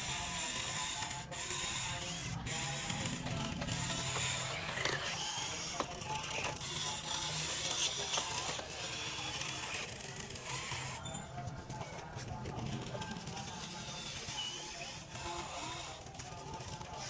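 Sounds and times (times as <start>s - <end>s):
electric motors whirring: 0.0s - 17.0s.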